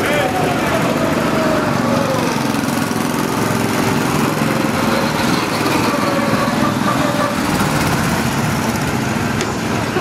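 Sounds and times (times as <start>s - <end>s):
go-kart engines running: 0.0s - 10.0s.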